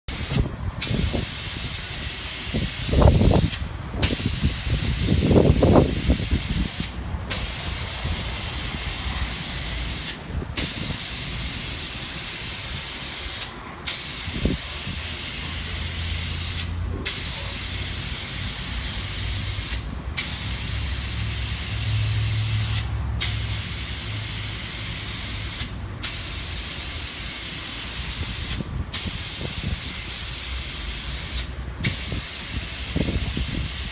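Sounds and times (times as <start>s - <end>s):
spray gun hissing: 0.1s - 33.9s.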